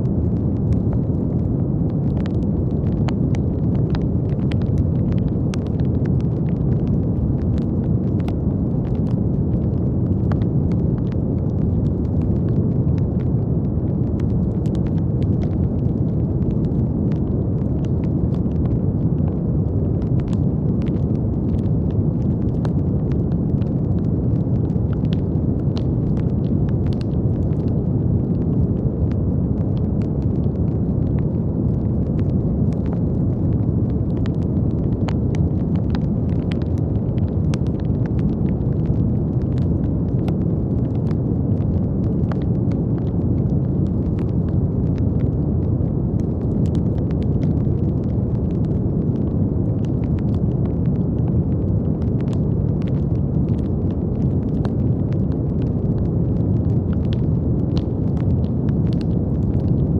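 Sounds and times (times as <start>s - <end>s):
faint crackles: 0.0s - 59.9s.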